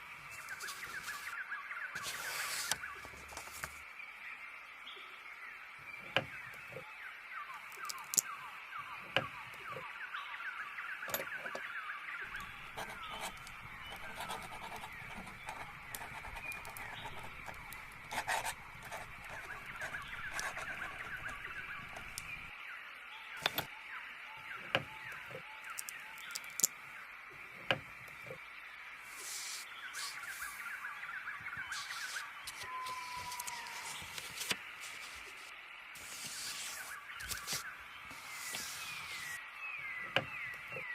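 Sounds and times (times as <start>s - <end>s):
small birds chirping: 0.0s - 3.8s, 5.8s - 22.6s, 24.4s - 40.9s.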